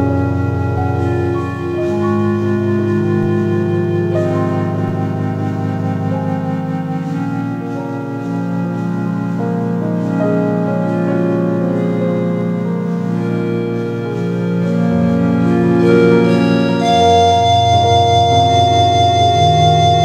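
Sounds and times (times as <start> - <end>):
ambient synthesizer chords: 0.0 - 20.0.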